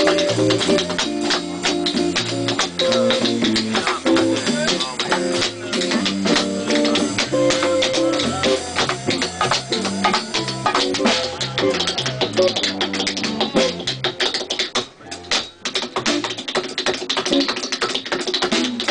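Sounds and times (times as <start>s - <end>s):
jazz band playing: 0.0s - 17.5s
tap shoes on wooden floor: 0.0s - 18.9s.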